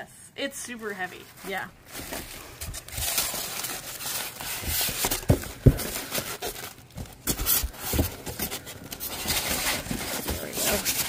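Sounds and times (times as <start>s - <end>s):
styrofoam and bubble wrap rustling: 0.7s - 11.0s.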